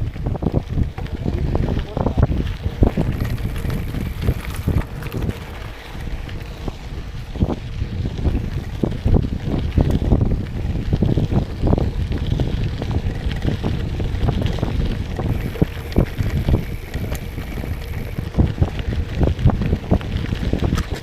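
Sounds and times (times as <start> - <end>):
bike rolling over rough ground: 0.0 - 21.0
wind buffeting microphone: 0.0 - 21.0.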